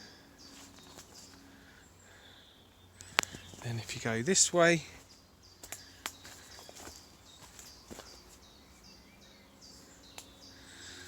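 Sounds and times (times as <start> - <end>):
soft footsteps on a path: 0.4 - 1.8, 3.0 - 11.0.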